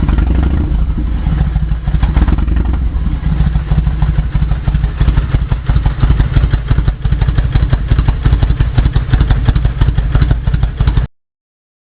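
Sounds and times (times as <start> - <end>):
motorcycle engine idling: 0.0 - 11.1.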